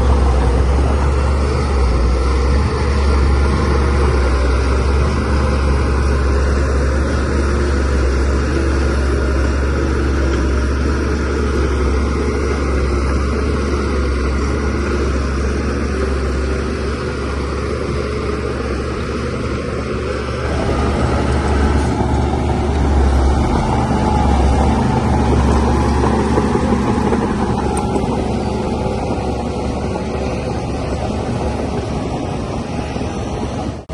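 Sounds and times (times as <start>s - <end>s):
bulldozer diesel engine rumbling: 0.0s - 33.9s.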